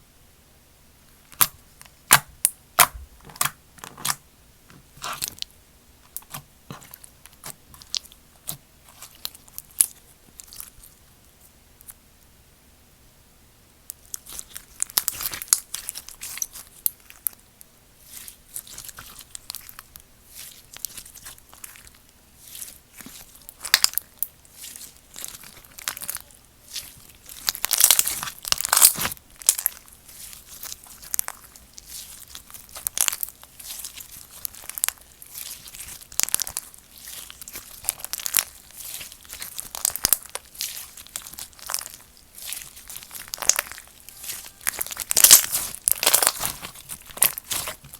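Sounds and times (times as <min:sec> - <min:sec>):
slime crackling and popping: 0:01.3 - 0:04.2, 0:06.1 - 0:10.8, 0:13.9 - 0:47.9.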